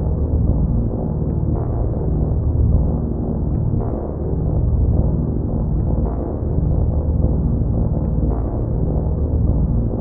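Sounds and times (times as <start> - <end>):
low ambient drone music: 0.0 - 10.0.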